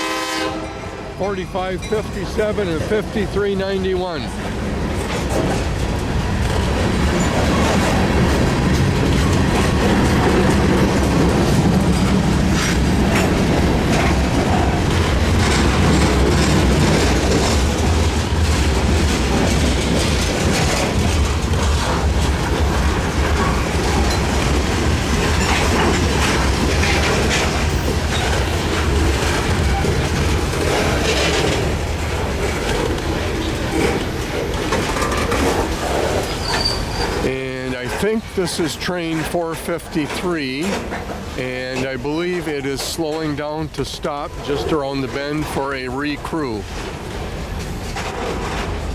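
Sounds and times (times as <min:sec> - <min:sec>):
freight train cars rolling: 0:00.0 - 0:48.9
wheels clicking over rail joints: 0:04.3 - 0:38.4, 0:39.0 - 0:45.6, 0:46.2 - 0:48.9.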